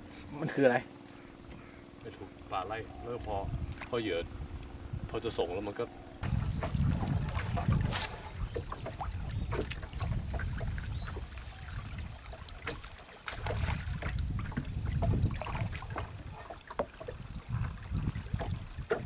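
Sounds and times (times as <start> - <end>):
water lapping against boat hull: 0.0 - 19.0
low wind rumble: 0.7 - 19.0.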